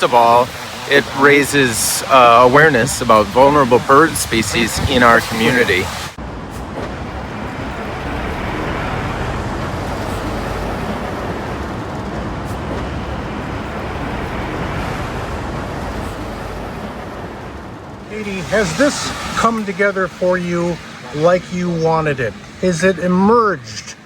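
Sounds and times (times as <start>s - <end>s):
road traffic rushing: 0.0s - 24.0s.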